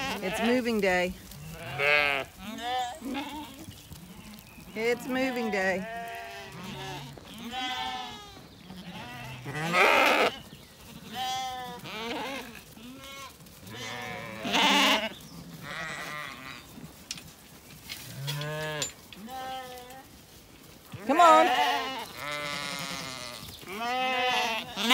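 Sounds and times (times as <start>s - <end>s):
sheep bleating: 0.0s - 16.7s, 18.1s - 20.0s, 21.0s - 24.9s.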